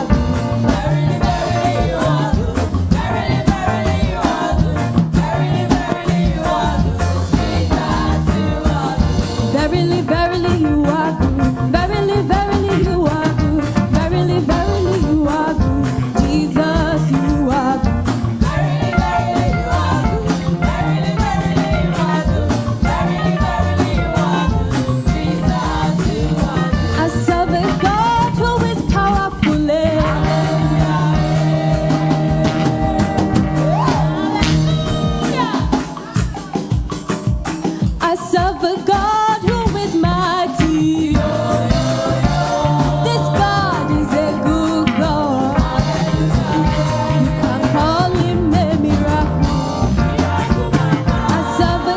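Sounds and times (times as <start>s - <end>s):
steady drum beat: 0.0s - 51.9s
voices singing gospel music: 0.0s - 51.9s.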